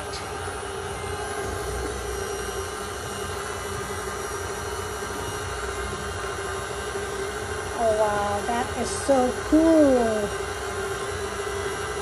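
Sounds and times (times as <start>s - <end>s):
stand mixer motor hum and whine: 0.0s - 12.0s.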